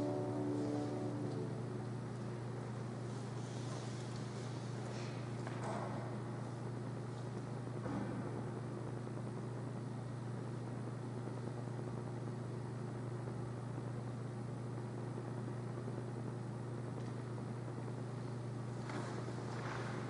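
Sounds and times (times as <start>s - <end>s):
low hum with hiss: 0.0s - 20.0s.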